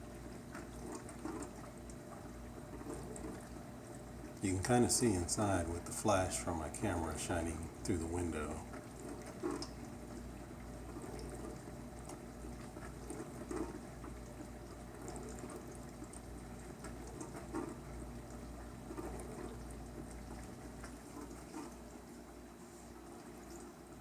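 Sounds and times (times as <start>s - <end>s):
water spraying and sloshing: 0.0s - 23.8s
dishwasher humming: 0.0s - 24.0s.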